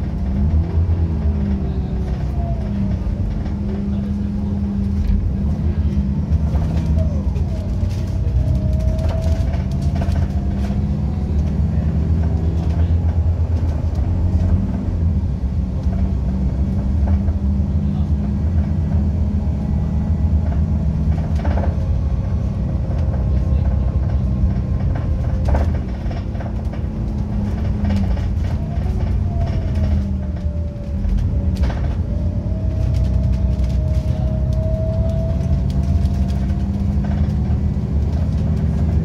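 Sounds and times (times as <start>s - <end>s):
bus engine drone: 0.0s - 39.0s.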